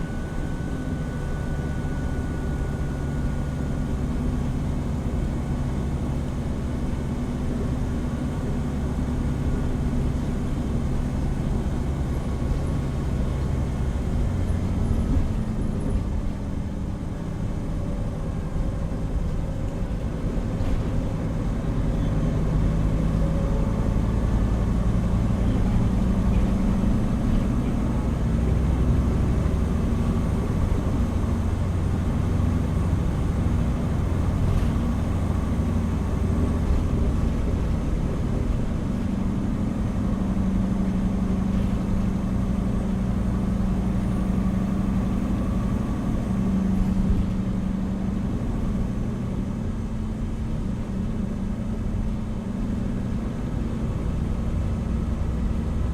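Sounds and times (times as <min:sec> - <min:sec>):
bus diesel engine: 0:00.0 - 0:55.9
road noise: 0:00.0 - 0:55.9.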